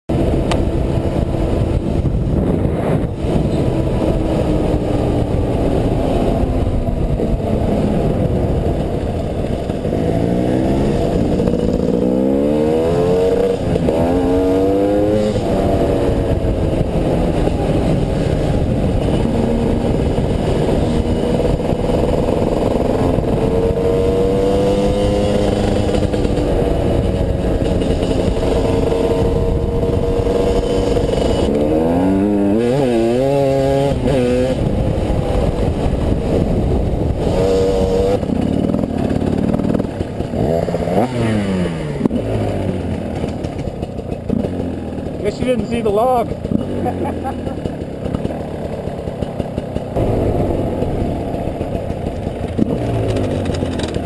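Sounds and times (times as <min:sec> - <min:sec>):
two-stroke motorcycle engine revving: 0:00.1 - 0:54.0.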